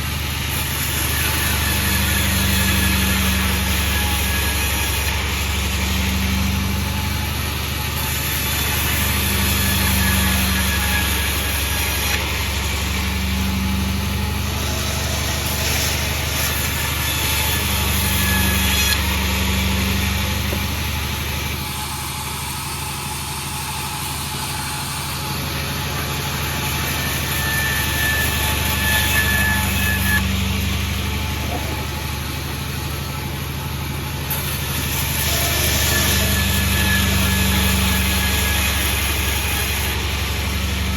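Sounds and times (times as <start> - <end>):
sawmill engine droning: 0.0 - 40.9.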